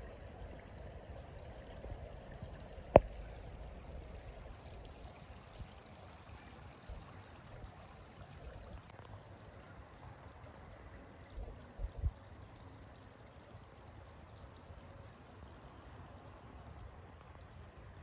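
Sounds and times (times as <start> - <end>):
creek water flowing over stones: 0.0 - 18.0.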